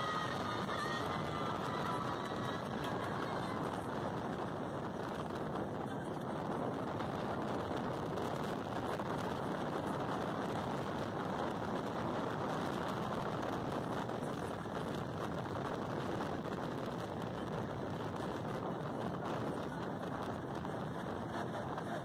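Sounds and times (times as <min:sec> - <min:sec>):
road and wind noise inside vehicle: 0:00.0 - 0:22.0.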